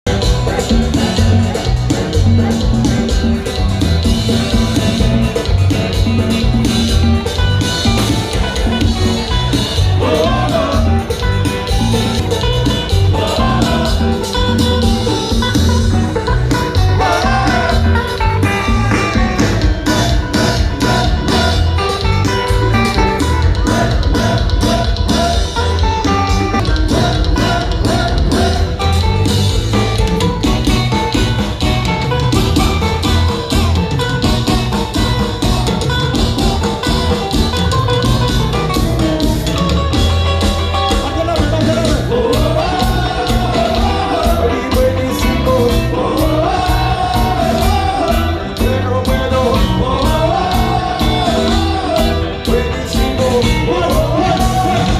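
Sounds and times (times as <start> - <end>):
electric guitar: 0.0 - 54.9
live band playing: 0.0 - 54.9.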